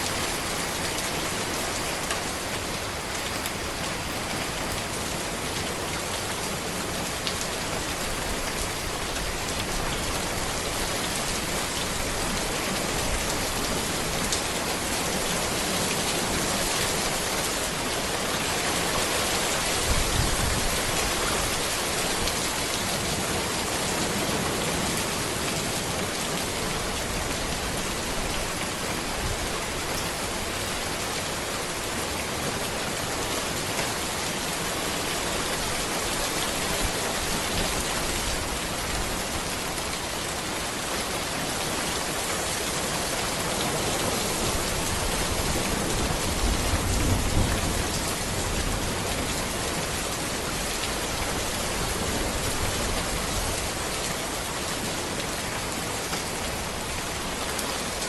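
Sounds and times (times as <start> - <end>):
rain falling on a road: 0.0 - 58.0.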